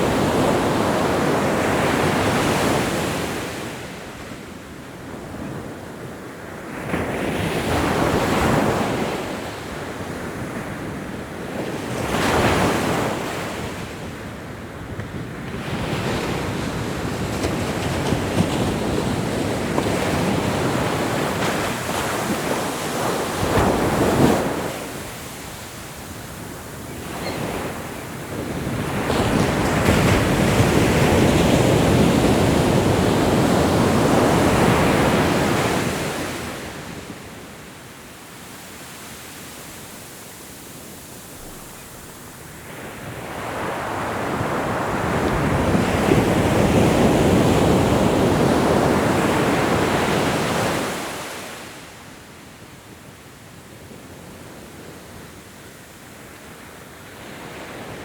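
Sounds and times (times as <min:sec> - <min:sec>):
ocean waves breaking on shore: 0:00.0 - 0:52.8.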